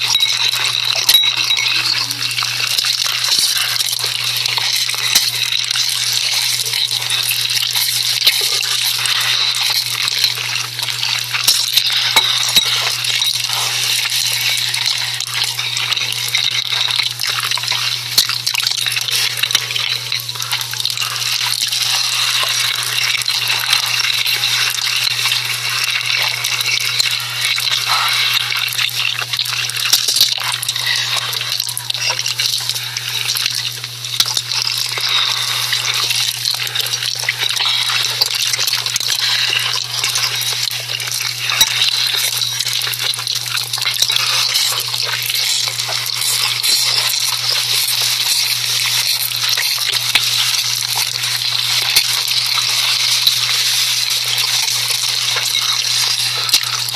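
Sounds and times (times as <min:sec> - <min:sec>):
noodles cooking and stirring: 0:00.0 - 0:56.9.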